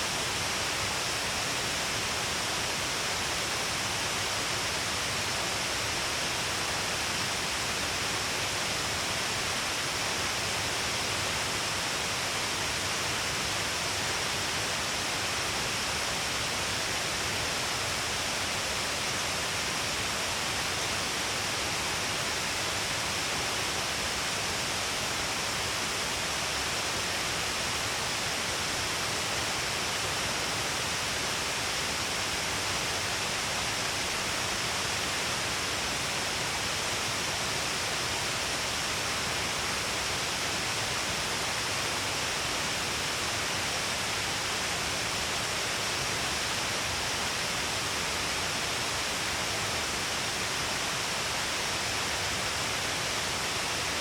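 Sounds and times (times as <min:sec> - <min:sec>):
waterfall hissing: 0:00.0 - 0:54.0.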